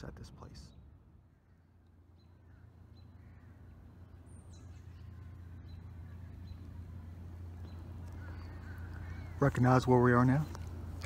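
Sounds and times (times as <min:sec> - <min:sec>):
low steady rumble: 0:00.0 - 0:11.0
faint bird calls: 0:00.5 - 0:11.0.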